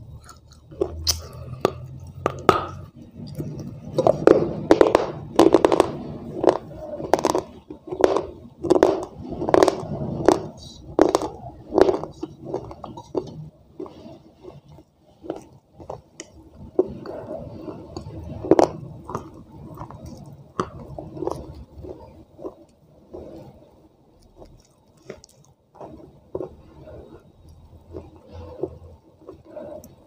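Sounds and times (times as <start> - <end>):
wet crunchy chewing: 0.0 - 30.0.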